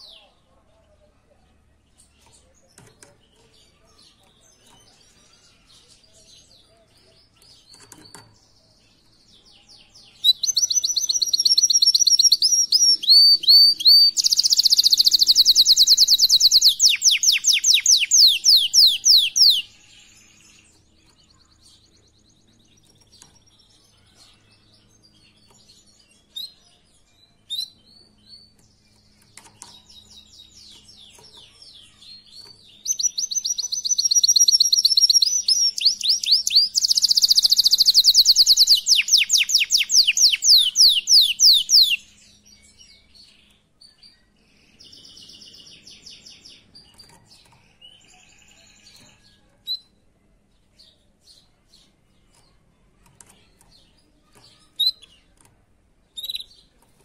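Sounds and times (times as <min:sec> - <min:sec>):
canary singing trills: 0:01.6 - 0:57.0.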